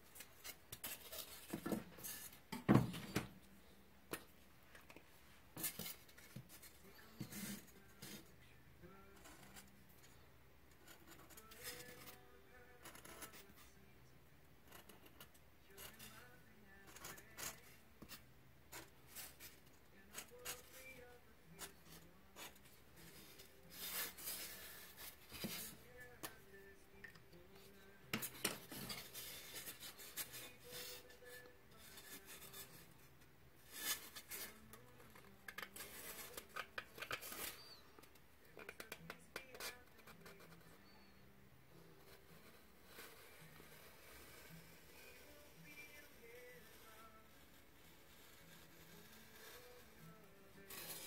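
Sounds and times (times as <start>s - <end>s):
faint background music: 0.0s - 51.0s.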